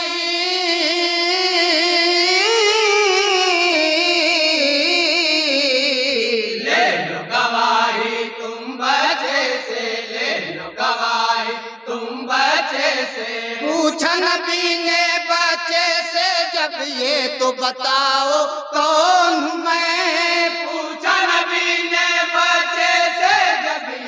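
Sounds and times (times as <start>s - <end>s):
men singing unaccompanied: 0.0s - 24.0s.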